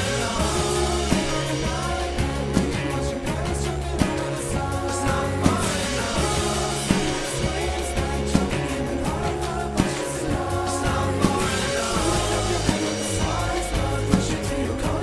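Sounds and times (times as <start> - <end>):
pop song with singing: 0.0 - 15.0.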